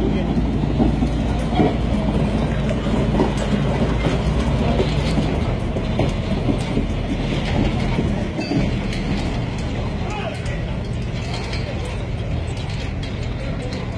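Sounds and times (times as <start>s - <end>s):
diesel engine rumbling: 0.0s - 13.9s
metallic clattering and clanks: 0.0s - 13.9s.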